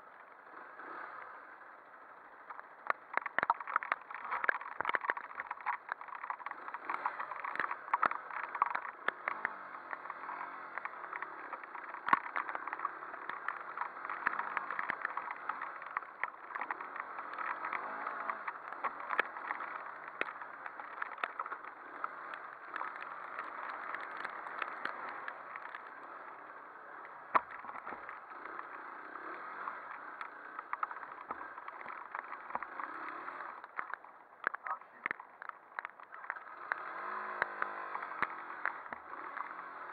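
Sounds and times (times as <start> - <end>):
motorcycle engine: 0.0 - 39.9
bike knocking and rattling: 1.9 - 39.9.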